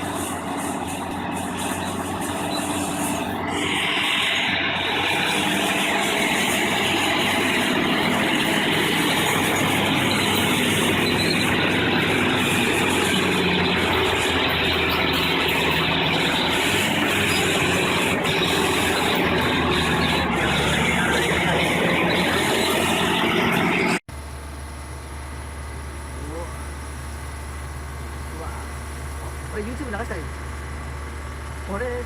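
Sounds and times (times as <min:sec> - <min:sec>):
heavy machine engine running: 0:00.0 - 0:32.0.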